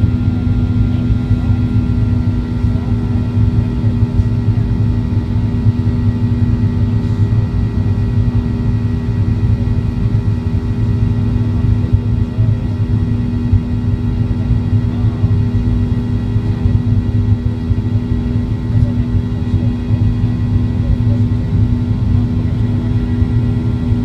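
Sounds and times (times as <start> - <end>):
jet engines droning in cabin: 0.0 - 24.0.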